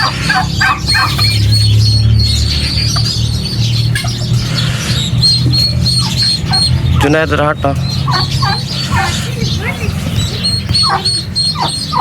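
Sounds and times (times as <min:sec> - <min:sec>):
steady low hum: 0:00.0 - 0:12.0
turkey calling: 0:00.0 - 0:12.0.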